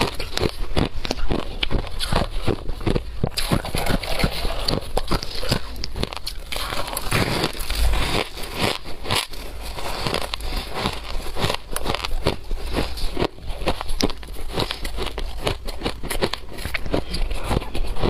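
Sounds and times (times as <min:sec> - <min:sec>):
fingers rustling through loose ice: 0:00.0 - 0:18.0
ice being chewed: 0:00.0 - 0:18.0.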